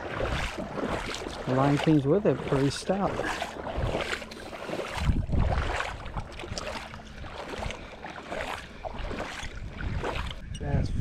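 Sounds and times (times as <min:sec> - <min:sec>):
water washing at shoreline: 0:00.0 - 0:11.0
wind buffeting microphone: 0:00.0 - 0:11.0.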